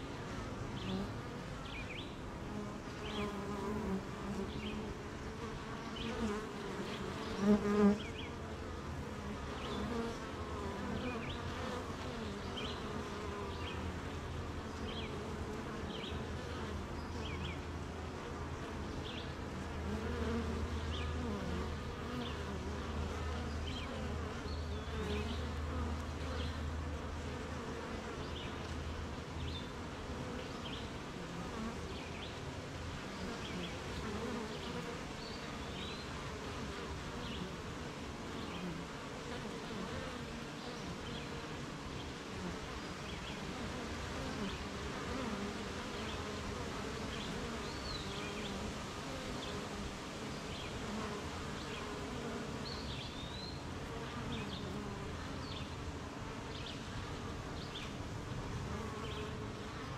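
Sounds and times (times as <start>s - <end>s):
bee buzzing close by: 0.0s - 59.9s
hum of many bees: 0.0s - 59.9s.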